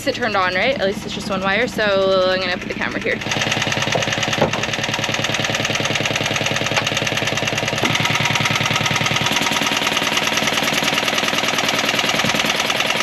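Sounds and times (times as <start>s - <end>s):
diesel engine idling with knock: 0.0s - 13.0s.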